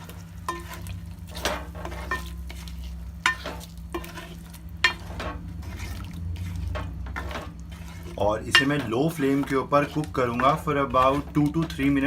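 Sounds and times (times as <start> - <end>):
gentle sizzle: 0.0 - 12.0
spatula scraping a pan: 0.0 - 12.0.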